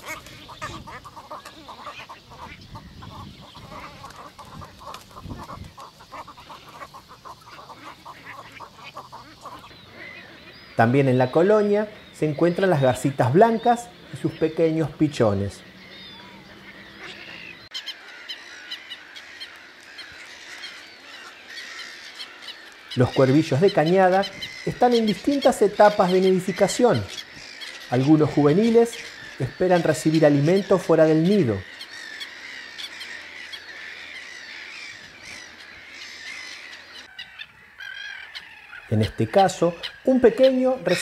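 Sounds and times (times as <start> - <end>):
birds squawking: 0.0 - 41.0
waterbird calls and chirps: 0.0 - 41.0.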